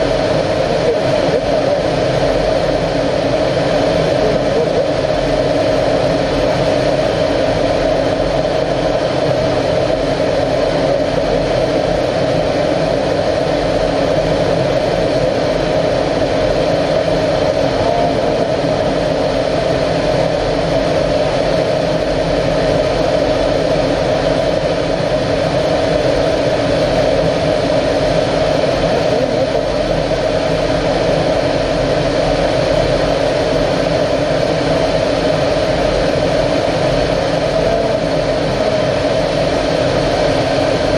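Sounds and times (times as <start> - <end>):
jet engine droning: 0.0 - 40.9.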